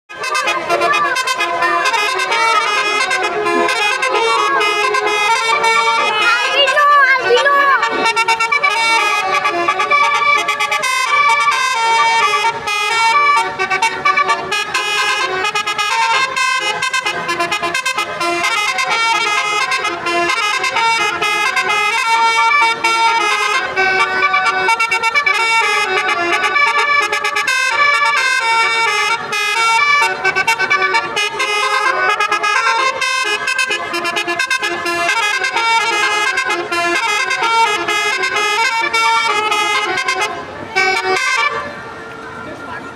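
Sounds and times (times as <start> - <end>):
musical air horn melody: 0.1 - 42.0.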